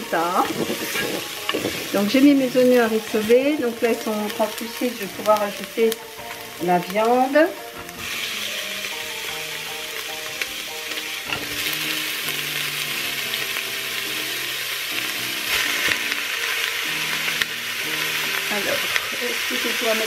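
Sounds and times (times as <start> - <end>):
meat and onions sizzling: 0.0 - 20.0.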